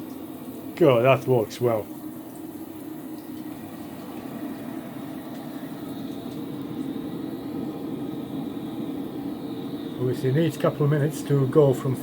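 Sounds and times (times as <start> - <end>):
gas burner rushing: 0.0 - 12.0
shower water running: 0.0 - 12.0.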